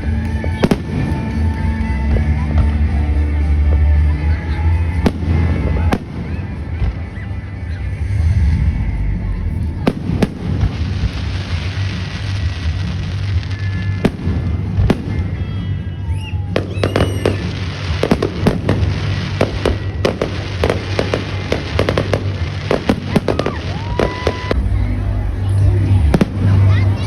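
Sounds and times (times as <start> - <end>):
fireworks bangs and crackling pops: 0.0 - 3.9, 4.9 - 7.4, 9.8 - 24.7, 25.5 - 27.0
low rumble: 0.0 - 27.0
fireworks whistling: 4.6 - 27.0.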